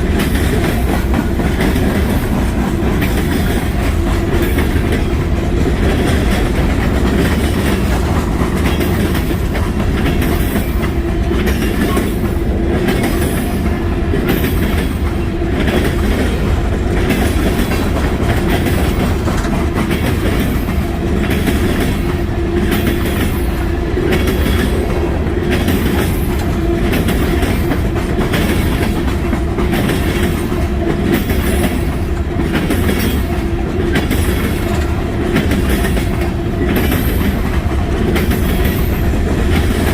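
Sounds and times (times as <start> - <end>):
train rumble: 0.0 - 39.9
train wheels clacking on rail joints: 0.0 - 39.9.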